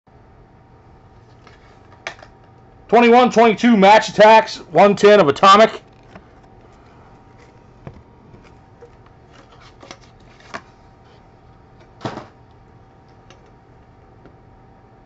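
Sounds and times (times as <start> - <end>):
faint steady hum: 0.1 - 15.0.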